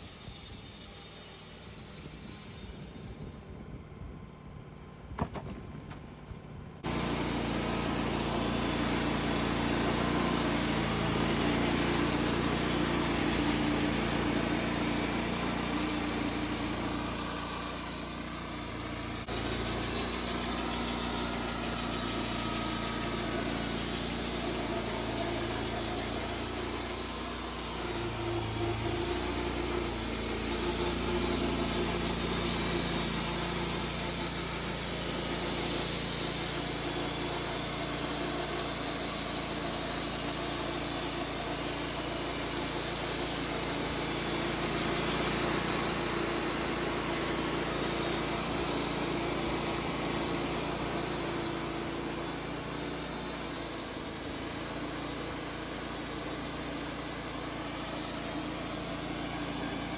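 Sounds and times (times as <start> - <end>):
saw cutting: 0.0 - 3.6, 6.8 - 59.9
sawmill engine running: 0.0 - 3.8, 5.1 - 59.9.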